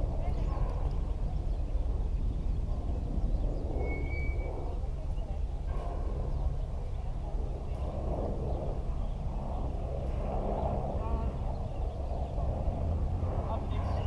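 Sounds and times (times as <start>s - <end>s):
faint murmur: 0.0s - 14.0s
low rumble: 0.0s - 14.0s.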